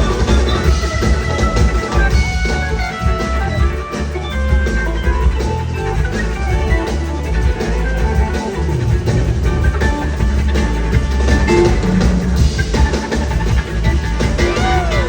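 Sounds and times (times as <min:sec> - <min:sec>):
drum kit: 0:00.0 - 0:15.0
electric guitar: 0:00.0 - 0:15.0
heavy bass: 0:00.0 - 0:15.0.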